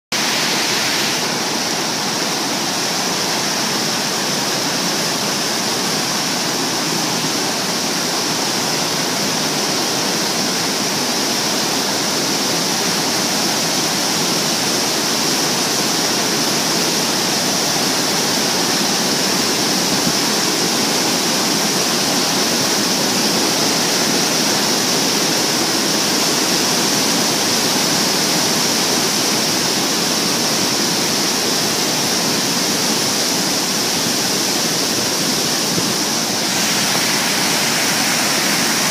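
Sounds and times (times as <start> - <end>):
river water rushing over weir: 0.1 - 38.9.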